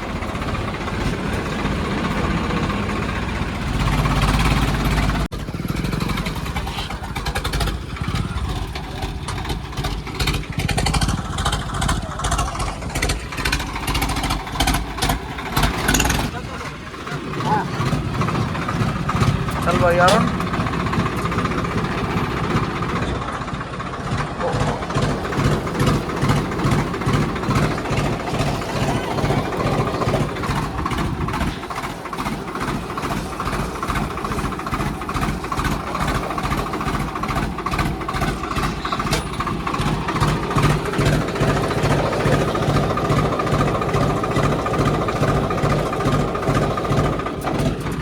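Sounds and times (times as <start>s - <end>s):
tractor diesel engines under load: 0.0s - 48.0s.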